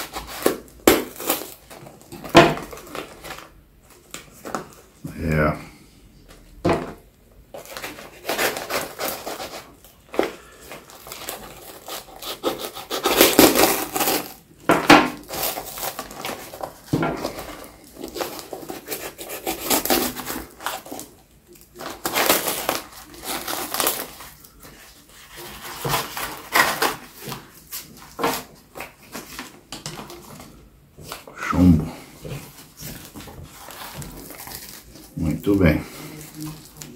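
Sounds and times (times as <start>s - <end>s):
paper and plastic tearing: 0.0s - 4.8s, 7.6s - 30.4s, 32.7s - 36.9s.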